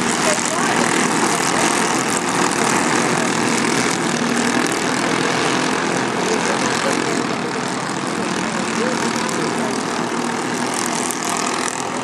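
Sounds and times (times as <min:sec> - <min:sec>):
kart engine running: 0:00.0 - 0:12.0.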